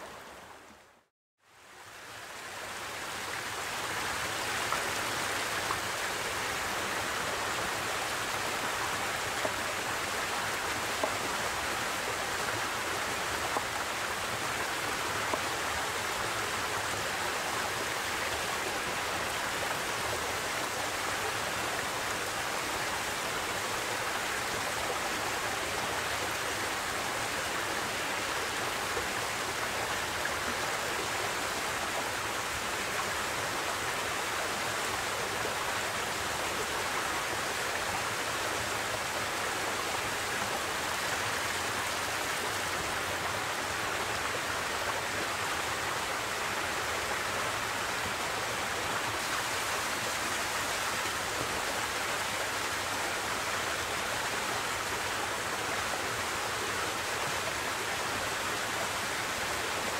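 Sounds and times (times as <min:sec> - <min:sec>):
stream spilling over rocks: 0:01.6 - 0:59.9.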